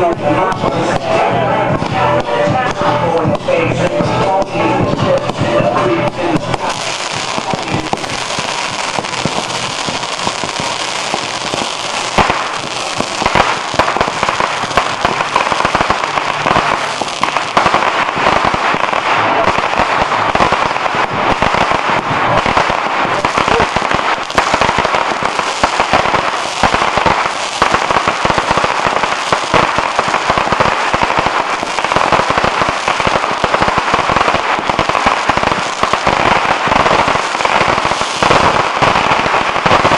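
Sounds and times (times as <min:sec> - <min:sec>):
fireworks crackling: 0:00.0 - 0:39.9
loud firework bangs: 0:04.0 - 0:39.9.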